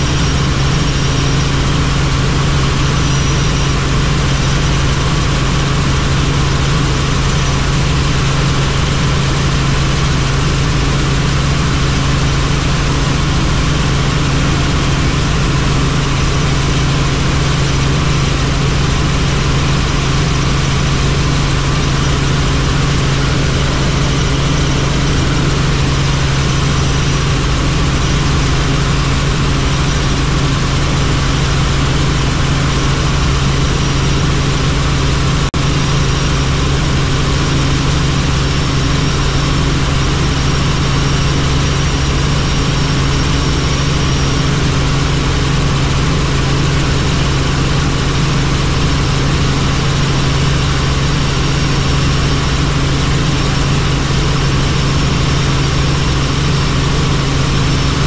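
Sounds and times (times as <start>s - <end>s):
helicopter engine and rotors: 0.0s - 58.0s.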